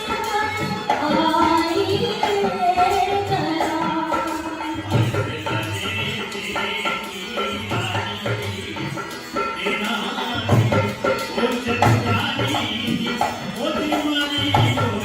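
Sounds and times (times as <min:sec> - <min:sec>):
hand drums: 0:00.0 - 0:15.0.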